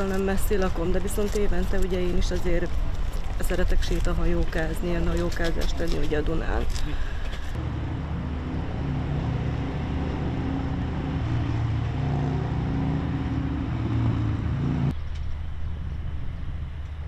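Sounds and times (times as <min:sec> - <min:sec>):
outdoor wind: 0:00.0 - 0:17.0.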